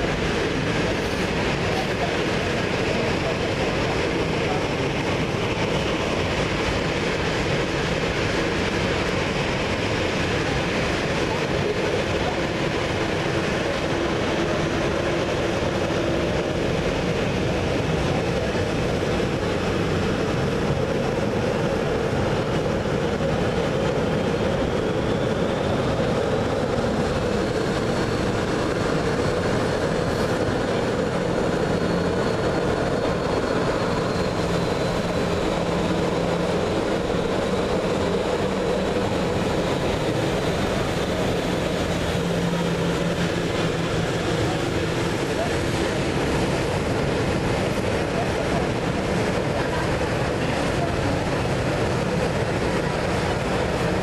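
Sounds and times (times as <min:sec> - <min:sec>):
jet engines idling: 0:00.0 - 0:54.0.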